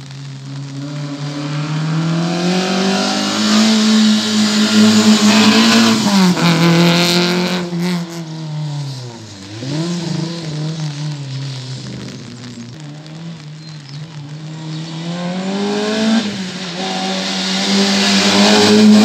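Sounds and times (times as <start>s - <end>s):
racing car engine revving: 0.2s - 13.5s, 14.2s - 19.0s
distant racing engine: 0.2s - 19.0s.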